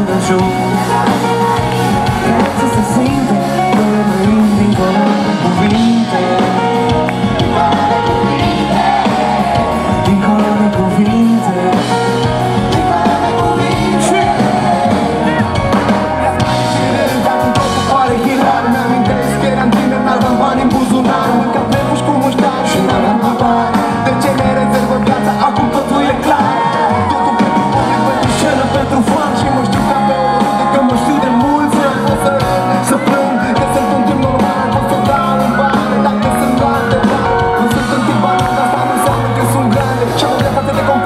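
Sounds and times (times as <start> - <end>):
drum beat: 0.0 - 41.0
live pop band: 0.0 - 41.0
man singing: 0.0 - 41.0
woman singing: 0.0 - 41.0.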